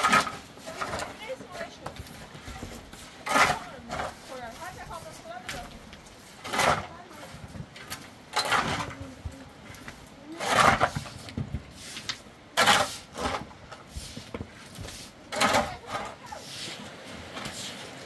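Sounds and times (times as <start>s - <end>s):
shovel scraping dirt and stones: 0.0s - 9.2s, 9.8s - 18.0s.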